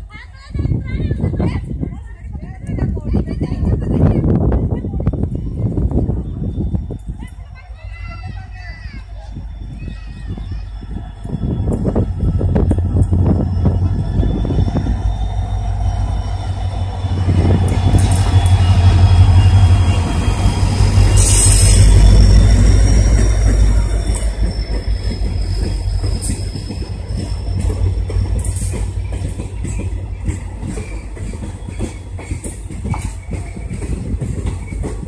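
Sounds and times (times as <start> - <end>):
diesel locomotive engine rumble: 0.0 - 35.0
high wheel squeal: 6.2 - 35.0.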